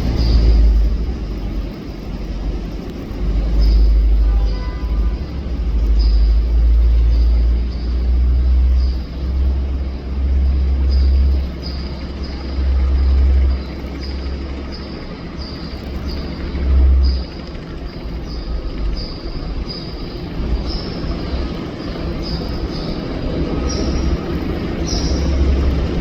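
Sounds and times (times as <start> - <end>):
helicopter rumbling: 0.0 - 26.0.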